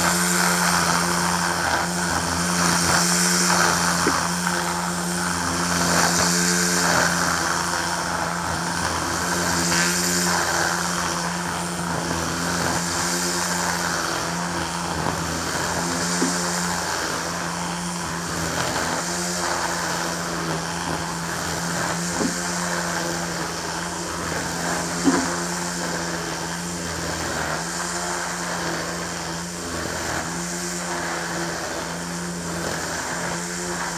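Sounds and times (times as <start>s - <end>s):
string trimmer cutting grass: 0.0s - 33.9s.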